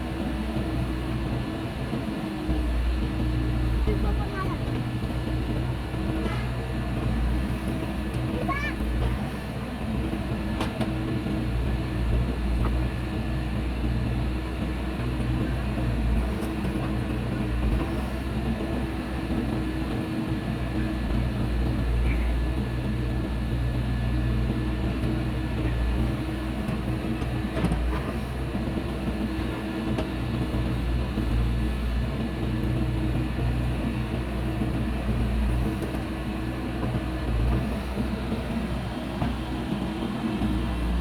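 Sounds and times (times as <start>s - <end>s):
heavy machinery diesel engine drone: 0.0s - 41.0s.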